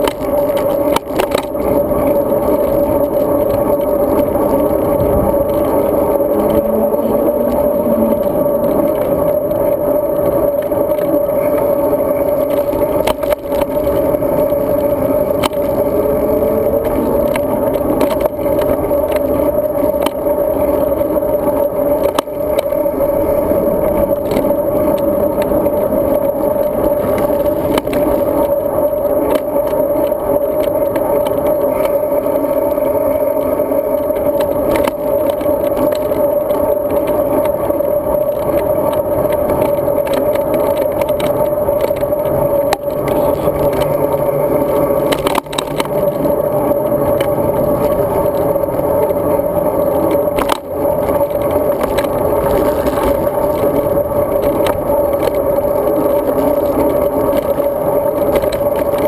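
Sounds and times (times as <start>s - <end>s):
bike clicks and rattles: 0.0s - 59.0s
wind and tyre noise: 0.0s - 59.0s.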